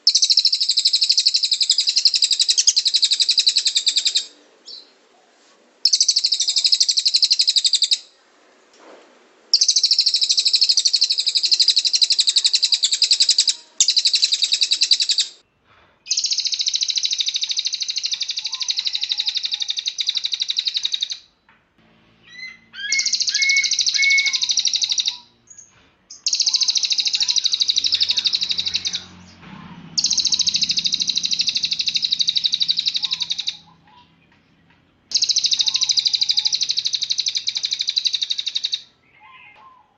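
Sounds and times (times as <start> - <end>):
bird singing high trills: 0.0 - 4.9, 5.8 - 8.1, 9.6 - 15.4, 16.1 - 21.3, 22.2 - 29.4, 30.0 - 34.4, 35.1 - 39.9.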